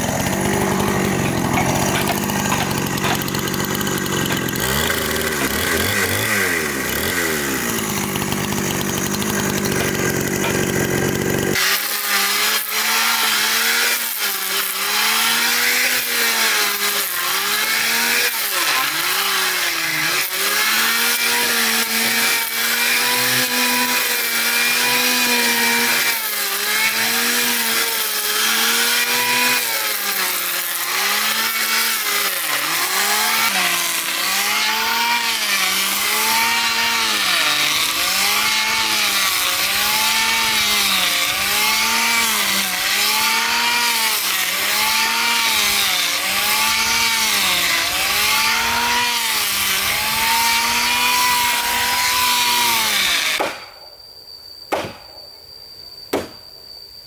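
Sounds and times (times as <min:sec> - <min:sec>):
power saw cutting wood: 0:00.0 - 0:53.8.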